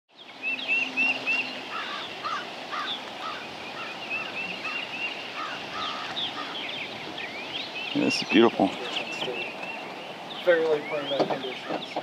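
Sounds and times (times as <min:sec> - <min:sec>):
steady outdoor hiss: 0:00.1 - 0:12.0
high bird chirps: 0:00.2 - 0:12.0
lower rising bird calls: 0:00.2 - 0:12.0.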